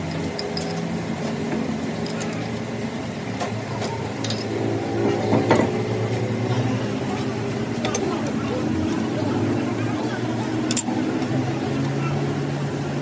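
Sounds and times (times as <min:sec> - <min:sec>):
workshop machine hum: 0:00.0 - 0:13.0.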